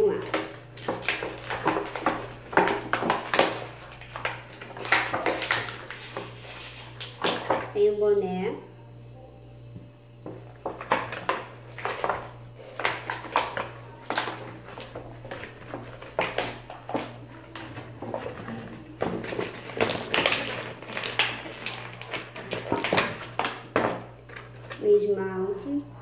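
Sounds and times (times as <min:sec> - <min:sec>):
plastic packaging crinkling: 0:00.0 - 0:07.7, 0:10.2 - 0:25.0.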